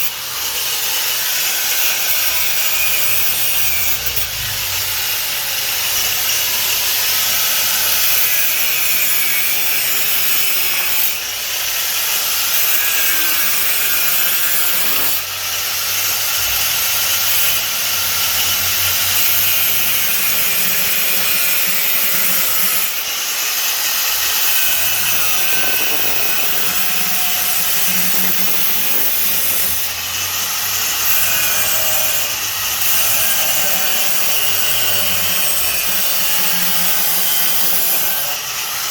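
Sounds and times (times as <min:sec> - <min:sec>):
angle grinder cutting sheet metal: 0:00.0 - 0:38.9.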